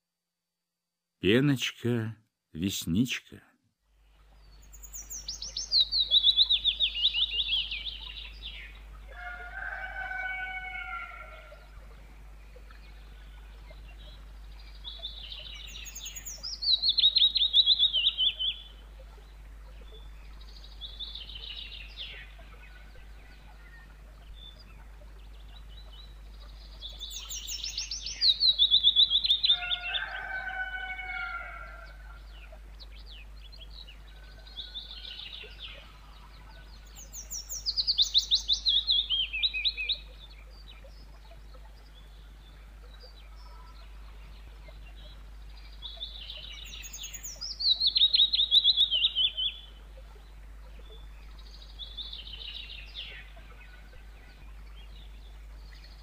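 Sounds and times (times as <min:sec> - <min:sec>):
lower slurred bird calls: 0:04.0 - 0:56.0
warbler singing: 0:04.1 - 0:56.0.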